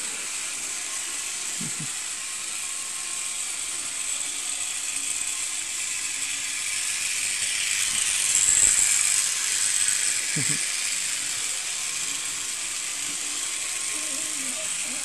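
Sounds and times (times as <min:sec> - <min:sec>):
model train whirring and rattling: 0:00.0 - 0:15.0.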